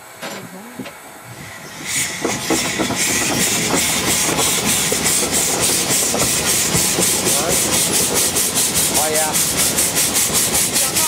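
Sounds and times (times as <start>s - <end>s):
train running noise: 0.0s - 11.0s
steam locomotive chuffing: 1.3s - 11.0s.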